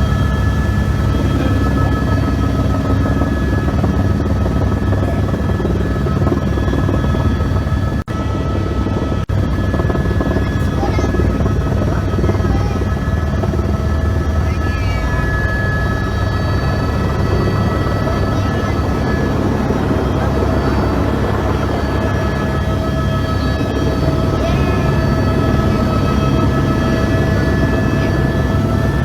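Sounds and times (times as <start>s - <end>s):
helicopter engine and rotor rumble: 0.0s - 29.0s.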